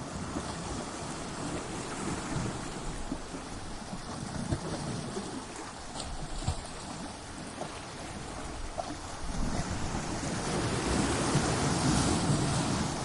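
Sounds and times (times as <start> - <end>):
ocean surf washing against rocks: 0.0 - 13.0.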